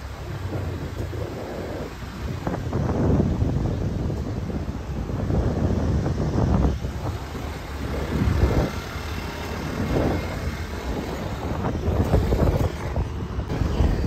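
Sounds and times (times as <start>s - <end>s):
vehicle low rumble: 0.0s - 14.0s
wind buffeting microphone: 0.0s - 14.0s.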